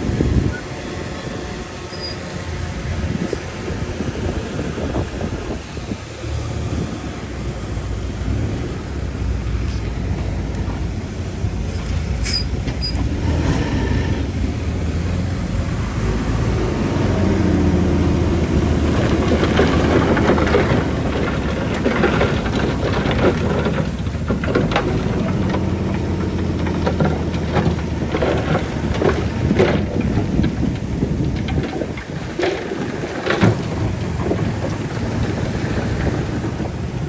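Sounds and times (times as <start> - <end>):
diesel earthmoving machine running: 0.0 - 37.0
metallic clanking and crunching: 0.0 - 37.0.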